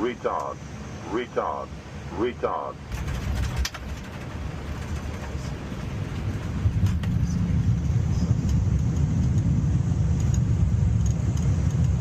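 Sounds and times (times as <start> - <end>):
low rumble of aircraft engines: 0.0 - 12.0.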